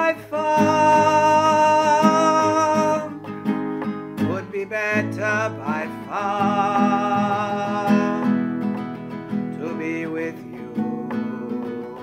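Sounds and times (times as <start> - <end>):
person singing a hymn: 0.0 - 3.2, 4.2 - 8.6, 9.5 - 12.0
acoustic guitar strumming: 0.0 - 12.0.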